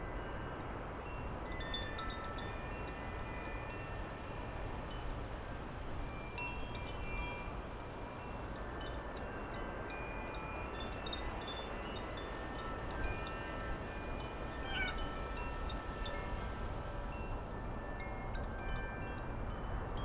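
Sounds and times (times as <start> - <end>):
wind chimes tinkling: 0.0 - 20.0.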